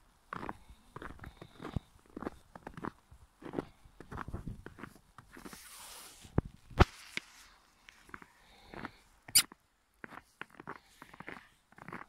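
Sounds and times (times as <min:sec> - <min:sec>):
footsteps crunching in snow: 0:00.3 - 0:12.0.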